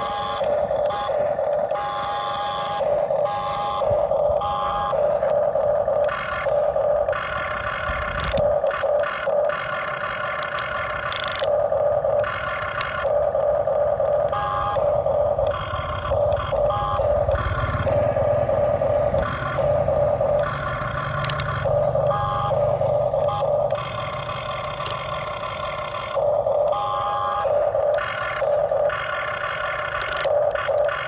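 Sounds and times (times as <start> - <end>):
small electric motors whining: 0.0 - 31.0.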